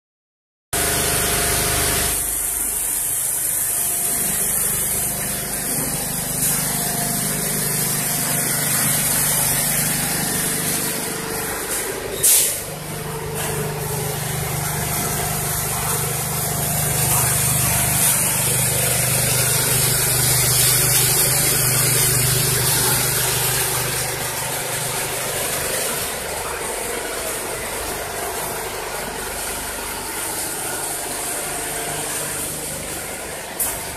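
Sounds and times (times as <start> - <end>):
quilting machine running: 0.8 - 33.9.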